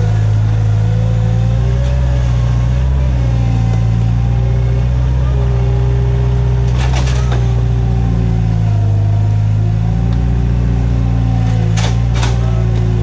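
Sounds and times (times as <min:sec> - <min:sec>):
loader engine running: 0:00.0 - 0:13.0.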